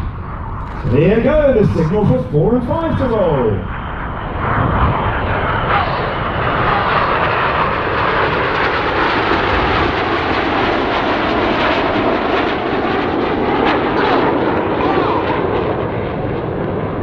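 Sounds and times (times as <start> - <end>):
jet noise: 0.0 - 17.0.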